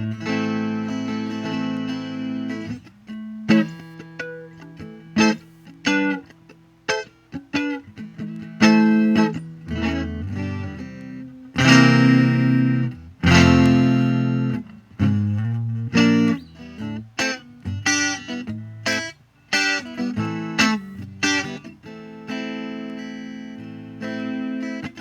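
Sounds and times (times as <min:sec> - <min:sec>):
electric guitar strummed chords: 0:00.0 - 0:25.0.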